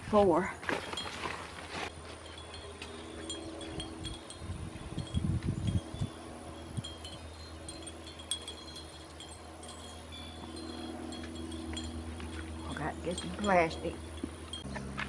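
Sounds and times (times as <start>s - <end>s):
faint ringing tones: 0.8s - 15.0s.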